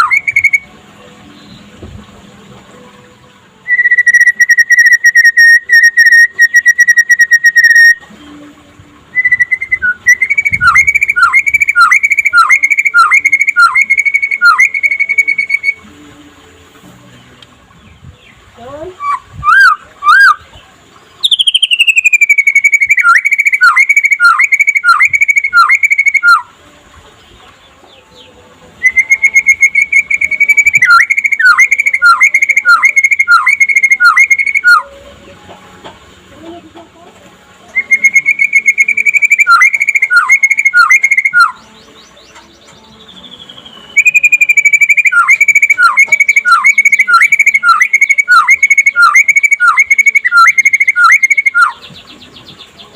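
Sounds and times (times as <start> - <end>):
songbird whistling song phrases: 0.0 - 1.8, 3.6 - 8.4, 9.1 - 15.9, 17.2 - 26.5, 27.3 - 35.0, 37.6 - 52.9.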